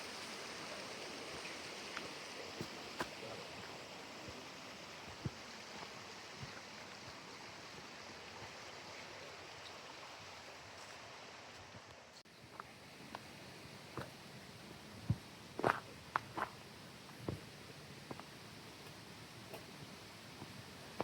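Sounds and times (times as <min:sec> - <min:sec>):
stream running water: 0:00.0 - 0:21.0.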